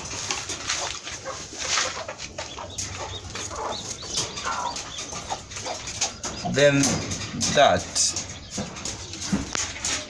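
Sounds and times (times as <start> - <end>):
chickens clucking: 0.0 - 10.0
chicks peeping: 0.0 - 10.0.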